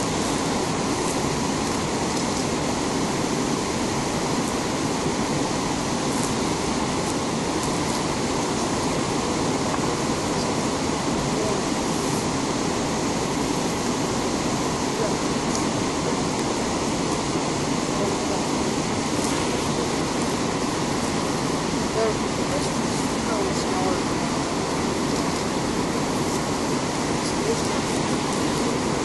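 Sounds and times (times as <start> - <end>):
river rapids rushing: 0.0 - 29.0.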